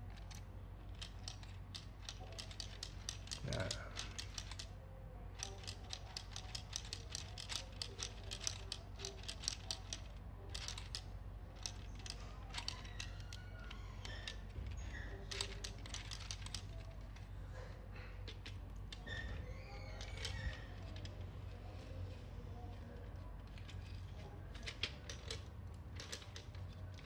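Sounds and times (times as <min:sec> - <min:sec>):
plastic gears clicking: 0:00.0 - 0:17.3, 0:18.2 - 0:27.0.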